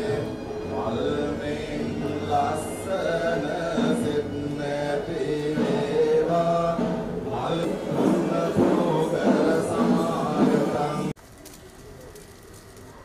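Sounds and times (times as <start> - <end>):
voices chanting together: 0.0 - 11.2.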